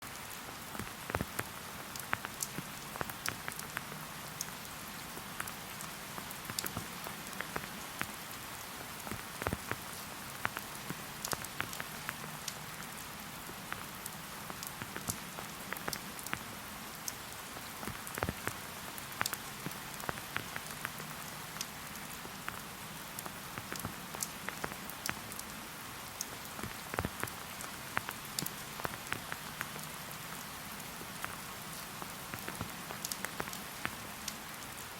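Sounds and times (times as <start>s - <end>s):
close raindrops landing: 0.0s - 34.9s
steady rain hiss: 0.0s - 34.9s.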